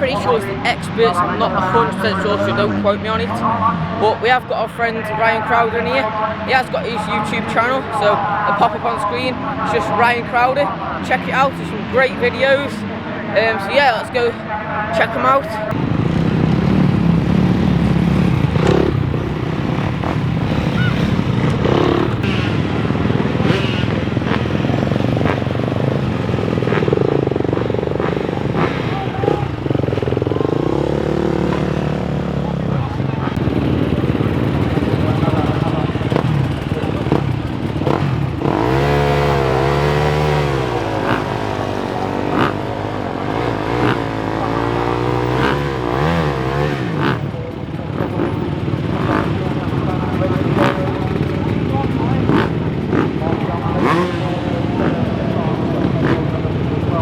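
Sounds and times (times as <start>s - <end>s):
motocross bike engines running: 0.0s - 57.0s.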